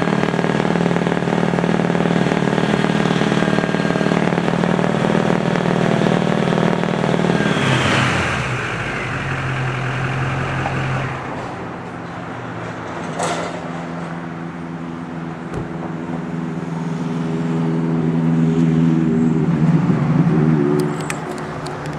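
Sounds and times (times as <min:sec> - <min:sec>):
truck engine running: 0:00.0 - 0:19.4.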